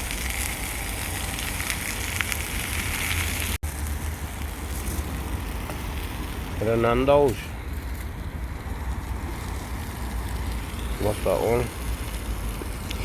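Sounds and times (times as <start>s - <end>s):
burgers sizzling and crackling: 0.0s - 13.0s.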